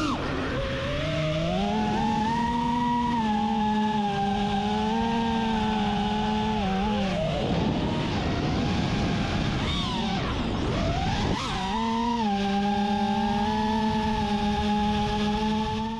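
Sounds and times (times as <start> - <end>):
quadcopter motors whining: 0.0 - 15.9.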